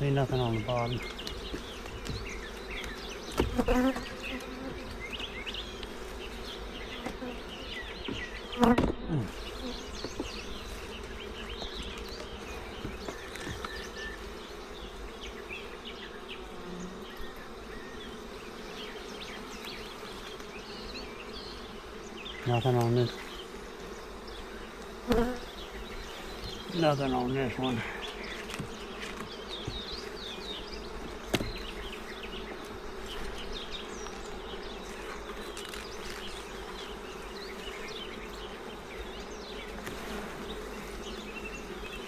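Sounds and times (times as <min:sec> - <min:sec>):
honey bees buzzing: 0:00.0 - 0:42.0.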